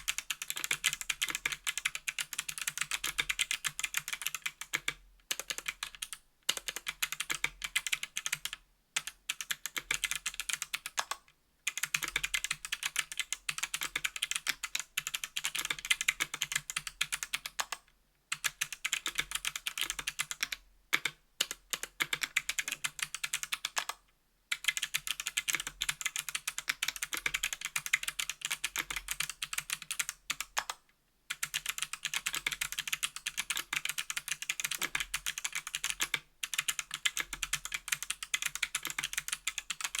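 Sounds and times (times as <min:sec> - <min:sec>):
fast typing on clicky keyboard: 0:00.0 - 0:40.0.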